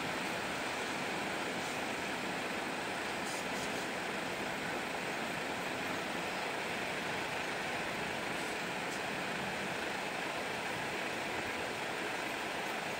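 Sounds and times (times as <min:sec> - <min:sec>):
heavy truck rolling on wet road: 0:00.0 - 0:12.9.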